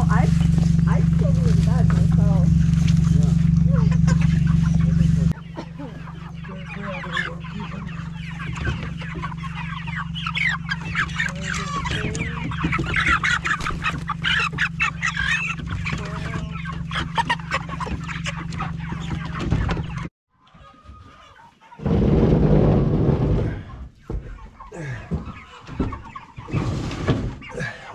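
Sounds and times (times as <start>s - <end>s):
chickens squawking and clucking: 0.0s - 27.9s.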